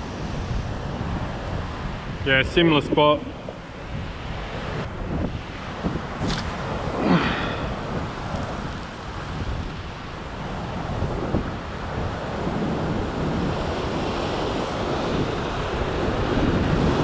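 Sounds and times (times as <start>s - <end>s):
ocean surf washing over rocks: 0.0s - 17.0s
wind buffeting microphone: 0.0s - 17.0s.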